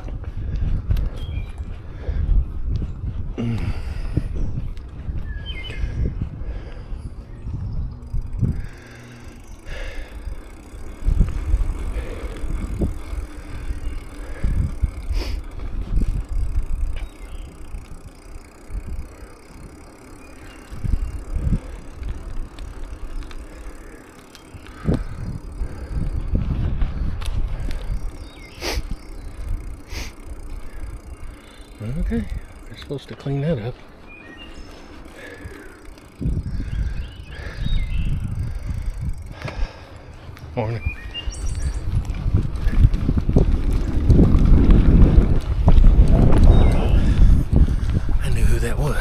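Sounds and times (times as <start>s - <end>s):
bicycle clicks: 0.0s - 49.0s
wind buffeting microphone: 0.0s - 49.0s.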